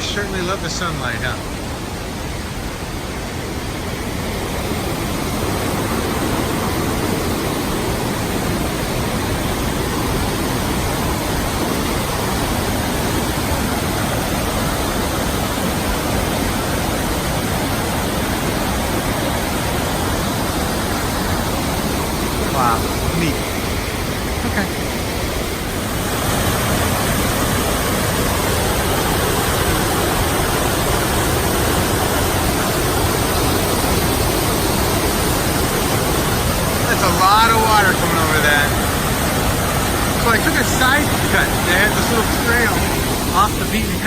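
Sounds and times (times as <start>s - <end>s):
waterfall roaring: 0.0s - 44.0s.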